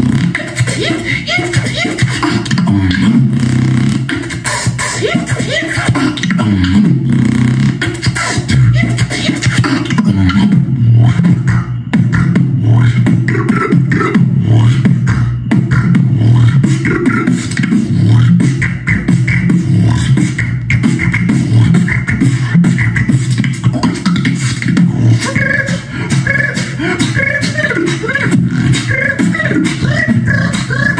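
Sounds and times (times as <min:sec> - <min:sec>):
beatboxing percussion: 0:00.0 - 0:30.9
higher pitched vocal line: 0:00.0 - 0:30.9
low vocal bass: 0:00.0 - 0:30.9.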